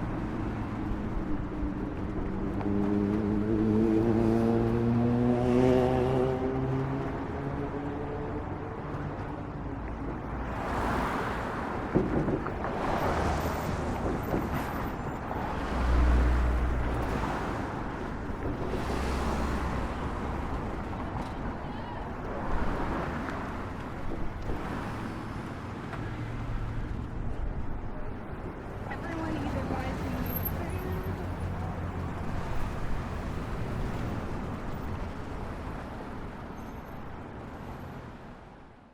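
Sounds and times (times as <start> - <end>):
passing cars: 0.0 - 38.9
street traffic rumble: 0.0 - 38.9.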